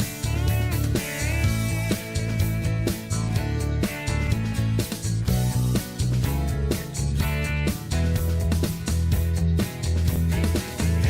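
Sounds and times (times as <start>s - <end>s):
music with strong bass line: 0.0s - 11.0s.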